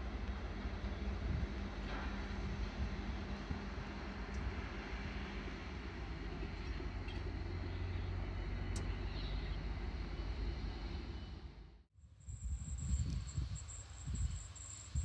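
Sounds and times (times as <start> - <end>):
train running by: 0.0 - 15.0.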